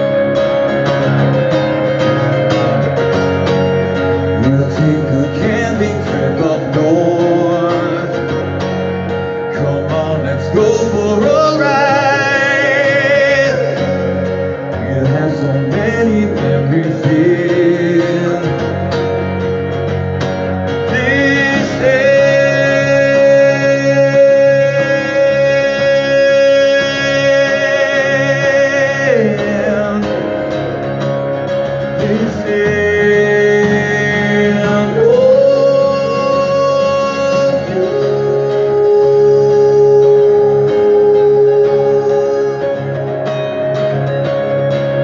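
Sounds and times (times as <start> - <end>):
plucked guitar: 0.0 - 45.0.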